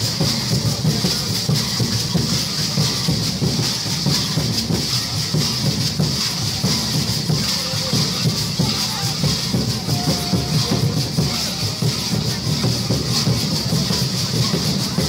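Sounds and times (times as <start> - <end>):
drums beating fast: 0.0 - 15.0.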